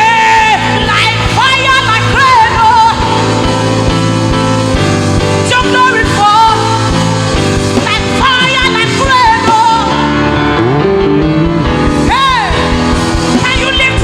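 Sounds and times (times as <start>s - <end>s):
band playing gospel music: 0.0s - 14.0s.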